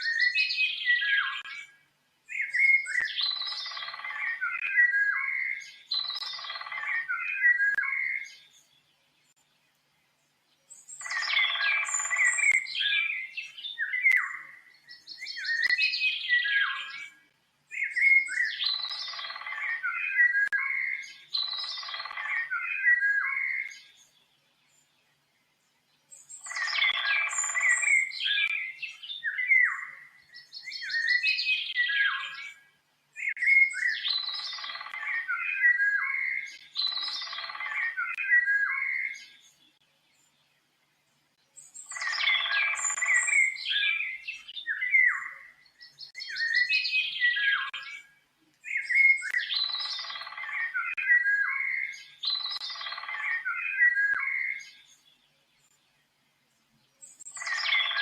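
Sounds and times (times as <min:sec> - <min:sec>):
songbird chirping and warbling: 0:00.0 - 0:58.0.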